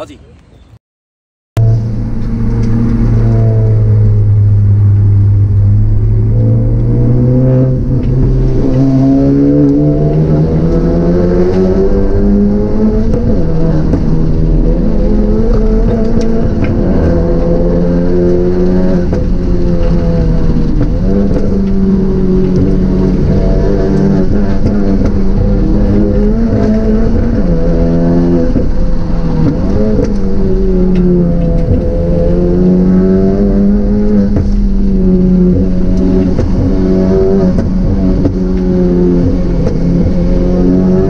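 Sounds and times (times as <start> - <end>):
car engine running: 1.6 - 41.0.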